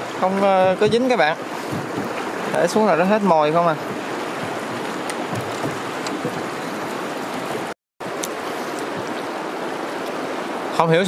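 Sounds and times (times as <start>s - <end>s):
fast-flowing floodwater rushing: 0.0s - 11.0s.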